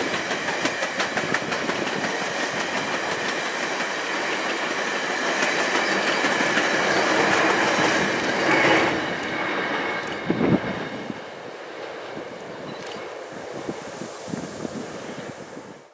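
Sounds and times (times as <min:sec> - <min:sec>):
train wheels clattering on rails: 0:00.0 - 0:13.2.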